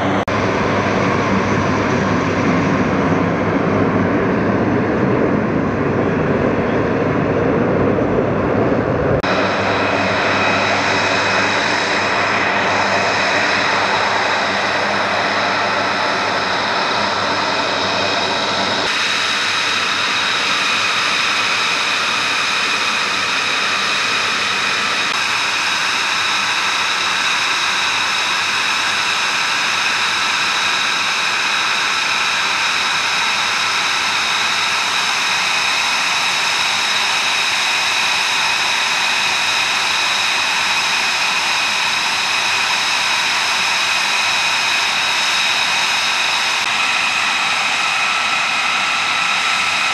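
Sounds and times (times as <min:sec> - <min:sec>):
jet engine idling whine: 0:00.0 - 0:49.9.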